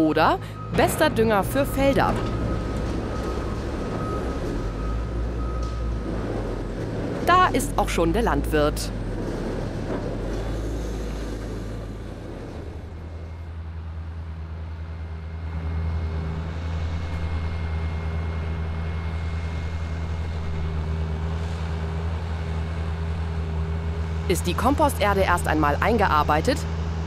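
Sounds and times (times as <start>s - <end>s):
diesel engines droning: 0.0s - 27.0s.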